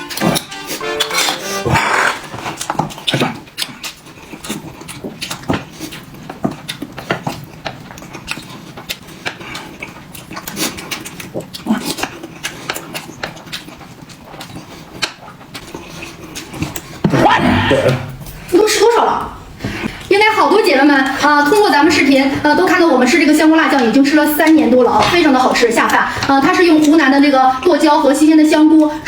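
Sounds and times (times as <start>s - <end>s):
people chewing noisily: 0.0s - 18.6s, 19.4s - 29.0s.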